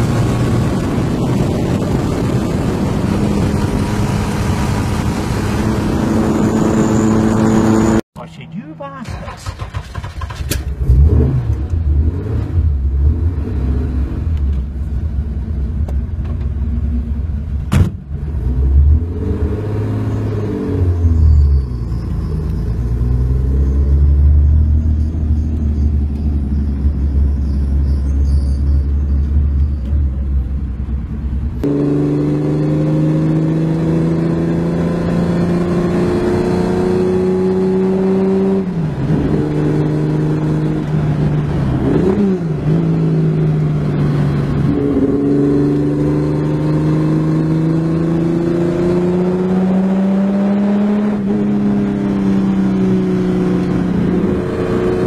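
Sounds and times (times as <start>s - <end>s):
car engine rumbling and revving: 0.0s - 8.0s, 8.8s - 55.0s.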